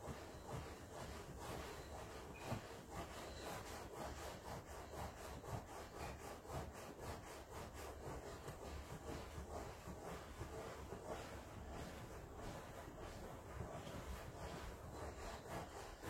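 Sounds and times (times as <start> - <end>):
rhythmic scraping strokes: 0.0 - 16.0.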